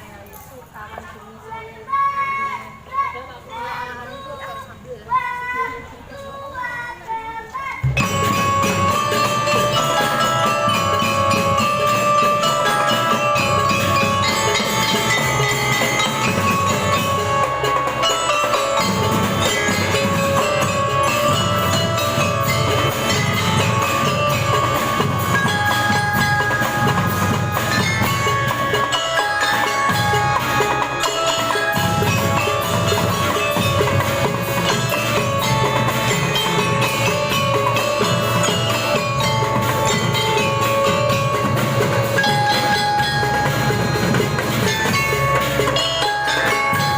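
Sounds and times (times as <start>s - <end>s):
bell lyre melody: 7.8s - 46.9s
drum band playing: 7.8s - 46.9s
steady drumming: 7.8s - 46.9s.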